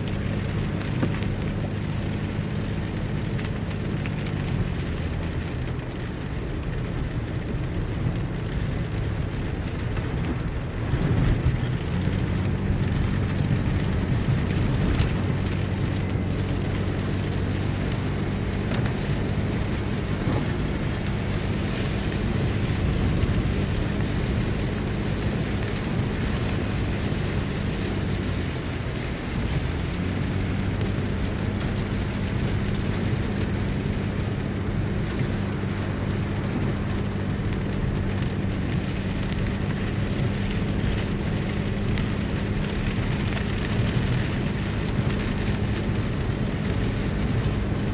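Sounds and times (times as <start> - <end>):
car engine hum: 0.0 - 47.9
rain and tyre hiss: 0.0 - 47.9.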